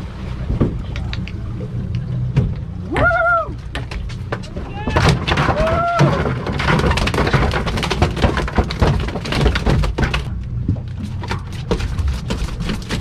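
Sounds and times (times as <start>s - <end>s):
knocks and thuds on a boat: 0.0s - 13.0s
low rumble: 0.0s - 13.0s.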